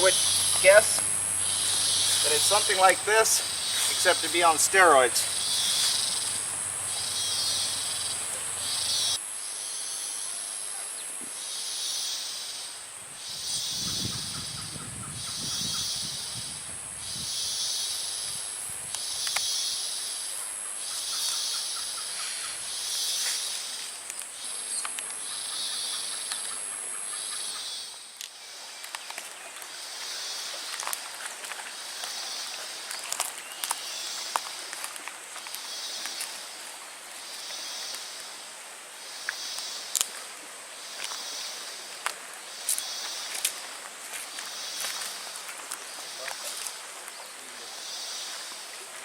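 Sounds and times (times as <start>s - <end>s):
insects high-pitched whine: 0.0s - 48.8s
faint rapid insect trills: 0.0s - 49.0s
hissy pulsing insect call: 0.0s - 49.0s.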